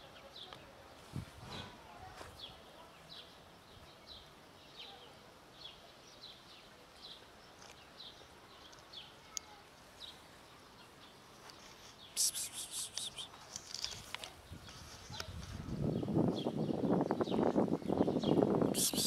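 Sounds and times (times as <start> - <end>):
bird chirping: 2.4 - 19.0.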